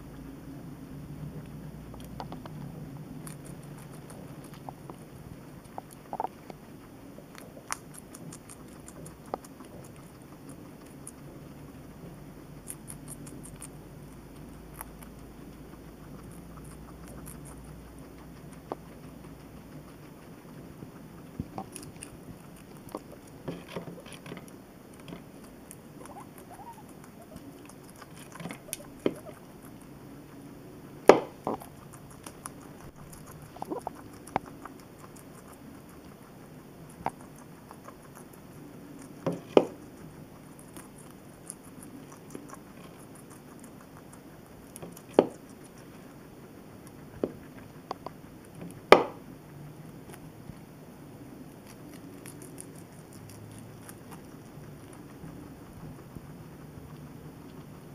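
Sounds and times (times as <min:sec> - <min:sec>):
guinea pigs chewing vegetables: 0:00.0 - 0:57.9.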